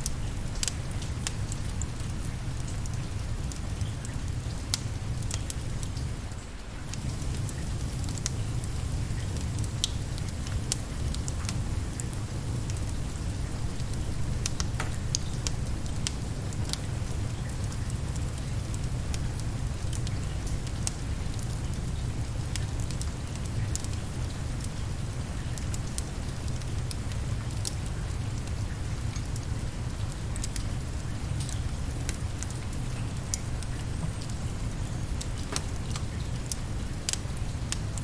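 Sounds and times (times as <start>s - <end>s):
fireplace fire crackling: 0.0s - 38.0s
rain falling: 0.0s - 38.0s.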